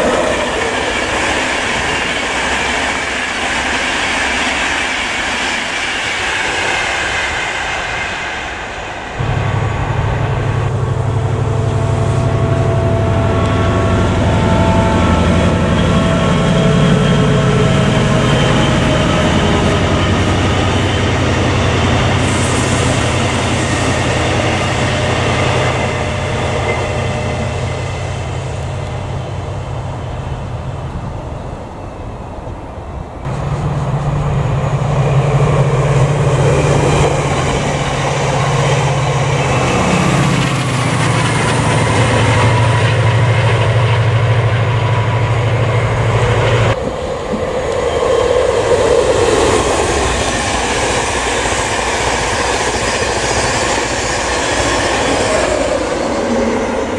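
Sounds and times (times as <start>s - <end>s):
low train engine note: 0.0s - 56.9s
trains passing at speed: 0.0s - 56.9s.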